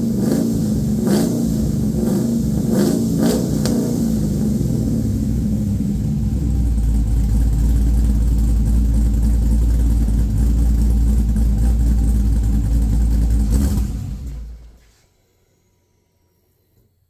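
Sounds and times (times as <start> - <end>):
car engine idling: 0.0 - 16.3
engine shutting off: 0.0 - 17.0.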